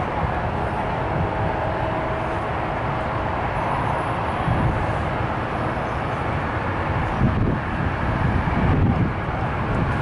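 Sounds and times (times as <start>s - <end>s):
jet engines rumbling at takeoff: 0.0s - 10.0s.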